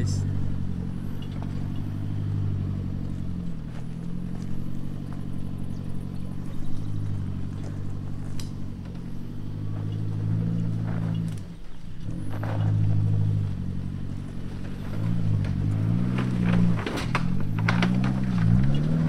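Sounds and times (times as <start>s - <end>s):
engine running at low revs: 0.0s - 19.0s.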